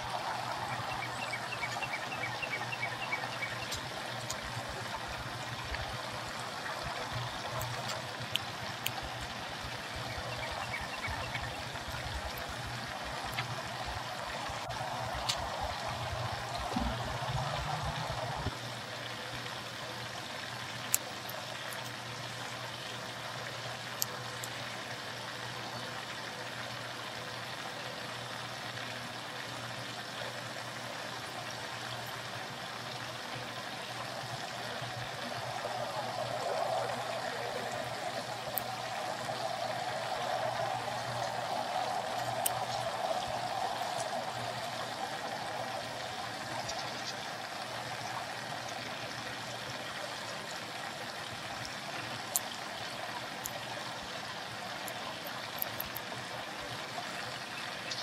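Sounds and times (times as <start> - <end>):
running water trickling: 0.0 - 58.0.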